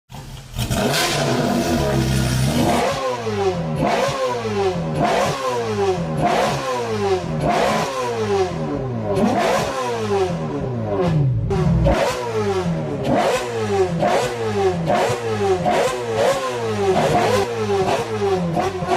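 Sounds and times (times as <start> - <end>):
car engine revving: 0.1 - 18.9.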